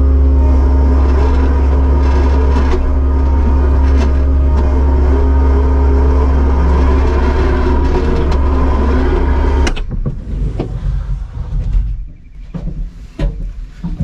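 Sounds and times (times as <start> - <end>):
diesel engine running: 0.0 - 12.3.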